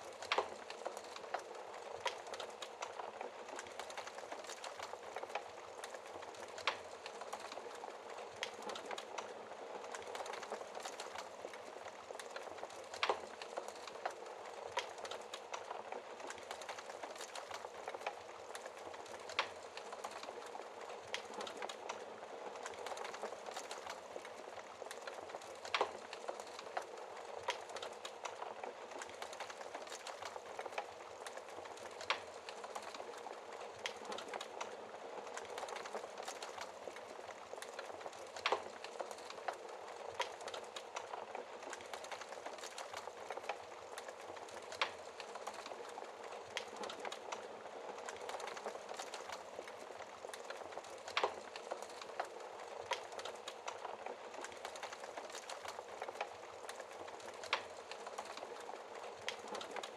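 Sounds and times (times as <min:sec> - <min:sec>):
burning logs popping: 0:00.0 - 0:59.9
wood fire crackling: 0:00.0 - 0:59.9.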